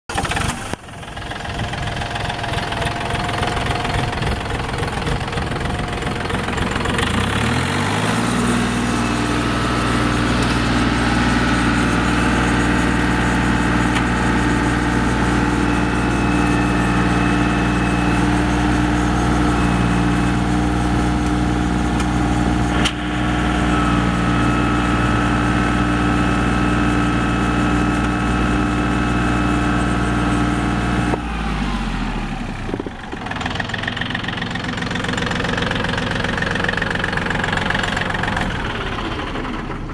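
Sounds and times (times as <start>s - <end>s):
diesel tractor engine running: 0.1s - 39.9s.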